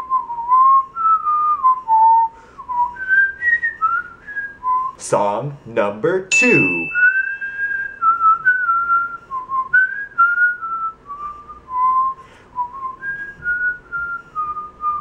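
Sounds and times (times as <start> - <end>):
man whistling a tune: 0.0 - 5.0, 6.4 - 15.0.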